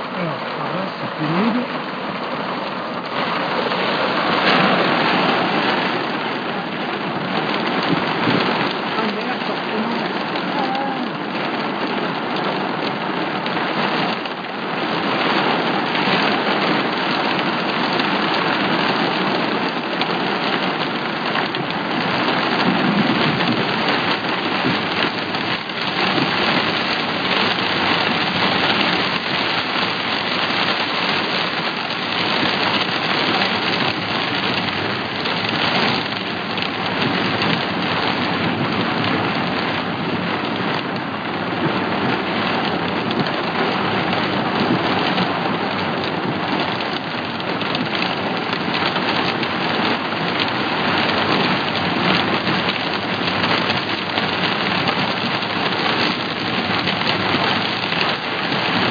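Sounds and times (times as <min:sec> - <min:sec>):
heavy rain downpour: 0:00.0 - 0:58.9.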